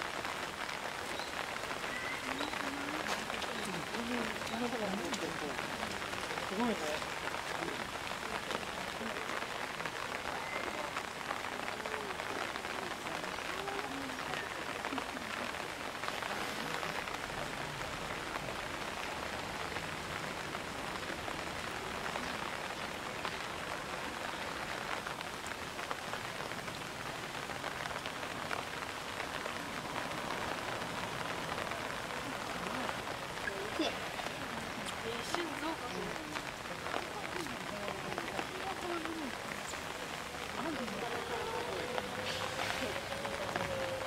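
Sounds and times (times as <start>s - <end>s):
heavy rain on rocks and water: 0.0s - 44.0s.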